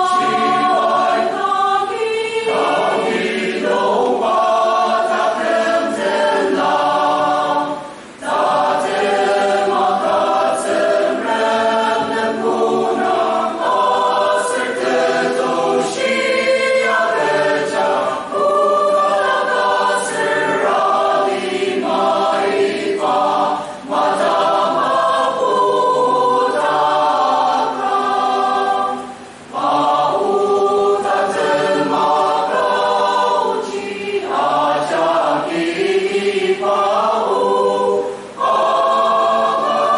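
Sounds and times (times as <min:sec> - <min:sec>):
mixed choir singing: 0:00.0 - 0:39.9.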